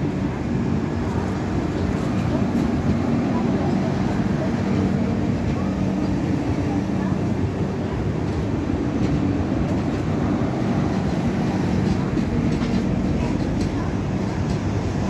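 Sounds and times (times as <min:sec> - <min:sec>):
train wheels rumbling on rails: 0:00.0 - 0:15.0
wheels clicking on rail joints: 0:01.0 - 0:15.0.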